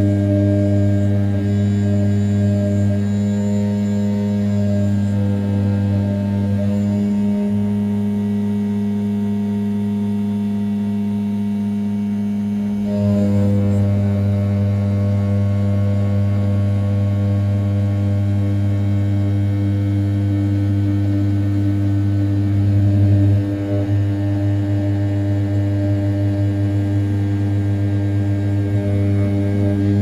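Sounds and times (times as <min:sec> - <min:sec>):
router spindle humming while milling: 0:00.0 - 0:30.0.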